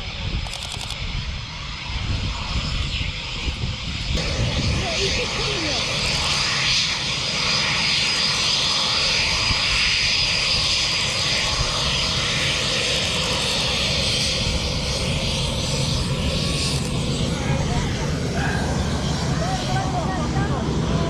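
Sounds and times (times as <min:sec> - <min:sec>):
aircraft engine running: 0:00.0 - 0:21.0.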